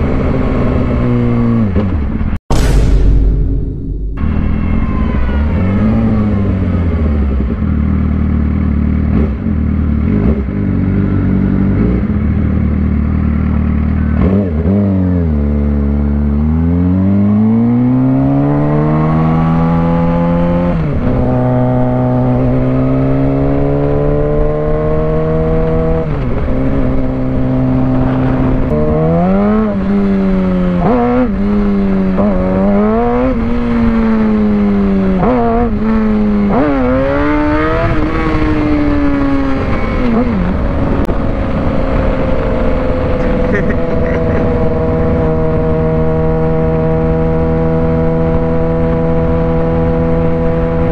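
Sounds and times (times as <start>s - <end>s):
motorcycle engine accelerating: 0.0s - 2.4s, 4.1s - 50.9s.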